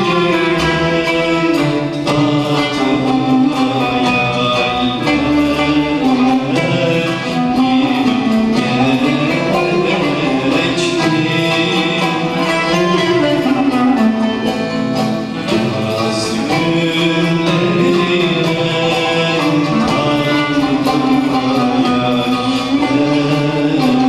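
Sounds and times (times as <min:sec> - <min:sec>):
man singing: 0:00.0 - 0:24.0
string ensemble with oud: 0:00.0 - 0:24.0.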